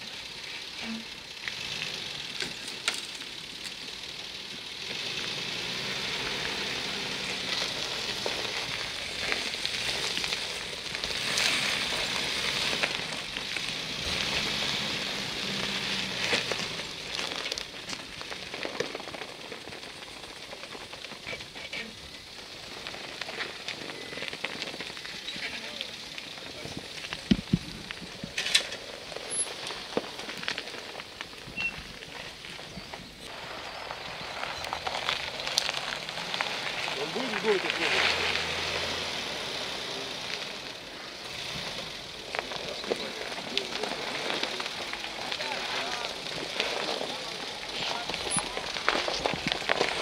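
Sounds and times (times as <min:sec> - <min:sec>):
crackles and clicks: 0:00.0 - 0:50.0
engine running low: 0:00.0 - 0:50.0.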